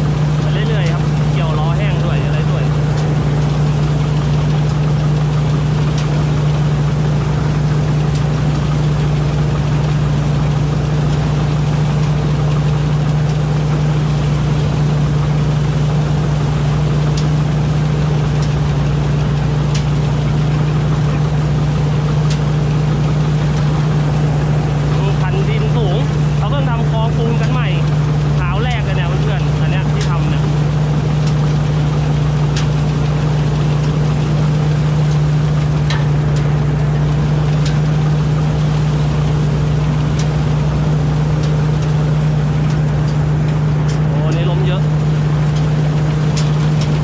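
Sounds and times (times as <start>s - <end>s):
combine harvester engine drone: 0.0s - 47.0s.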